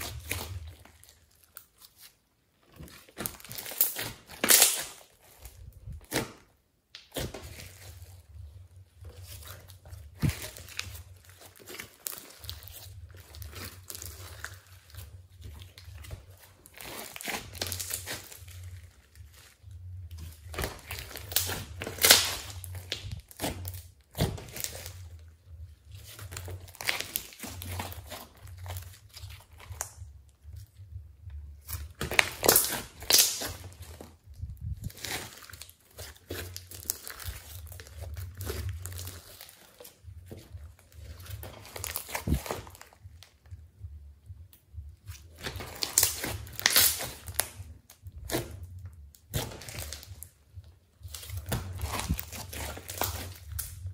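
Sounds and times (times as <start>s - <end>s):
slime crackling and tearing: 0.0s - 2.2s, 2.8s - 6.4s, 7.0s - 25.3s, 25.9s - 30.0s, 31.6s - 43.0s, 45.1s - 50.3s, 51.0s - 53.9s.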